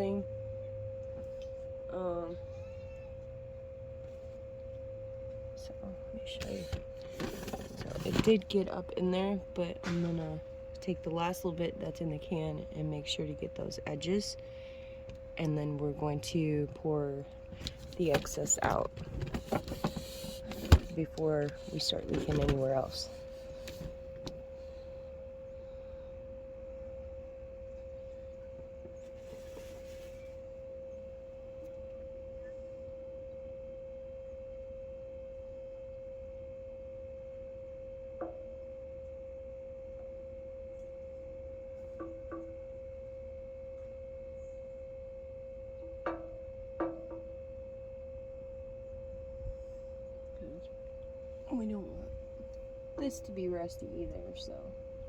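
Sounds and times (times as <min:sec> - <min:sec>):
steady single-pitch whine: 0:00.0 - 0:55.0.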